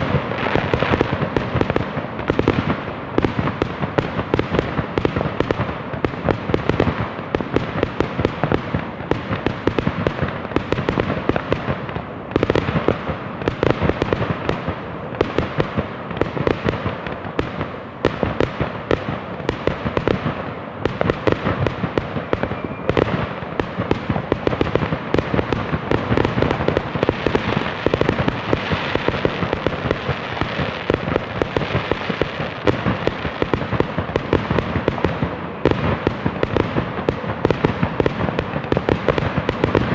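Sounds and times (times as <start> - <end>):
fireworks popping and banging: 0.0 - 39.9.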